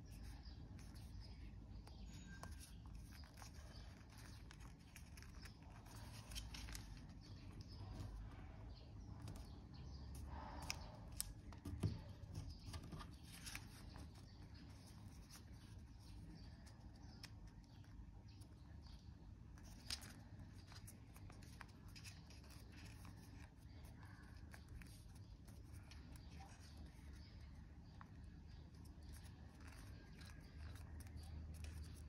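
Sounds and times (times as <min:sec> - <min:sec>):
paper rustling and crackling: 0:00.2 - 0:08.3, 0:10.2 - 0:17.6, 0:19.6 - 0:32.0.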